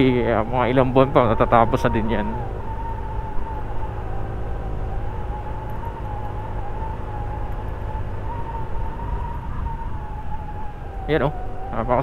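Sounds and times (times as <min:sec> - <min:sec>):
high whine: 0:00.0 - 0:12.0.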